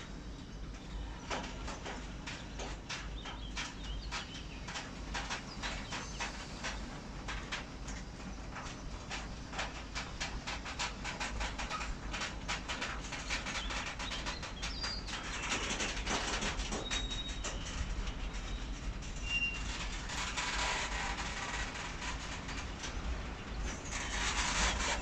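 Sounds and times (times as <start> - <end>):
train rumble: 0.0 - 25.0
train wheels clicking over rails: 0.0 - 25.0.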